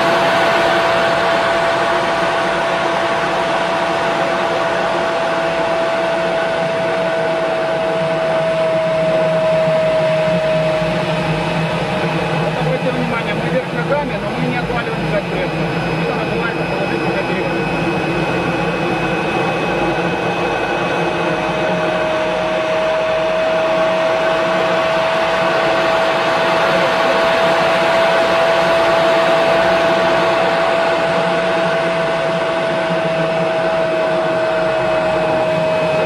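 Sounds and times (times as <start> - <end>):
airflow over canopy: 0.0 - 36.0
jet engine rush: 0.0 - 36.0
steady whine: 0.0 - 36.0.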